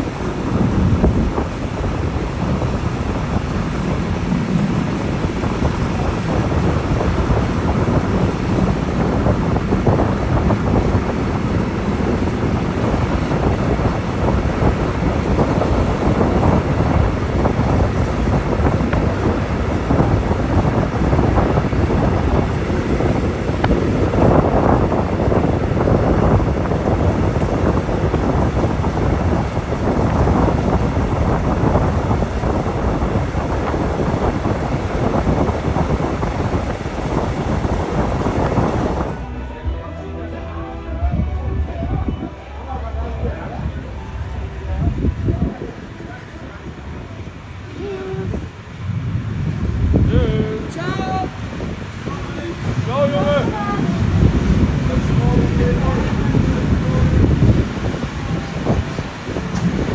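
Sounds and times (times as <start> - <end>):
train rumbling on rails: 0.0 - 59.9
wind buffeting microphone: 0.0 - 59.9.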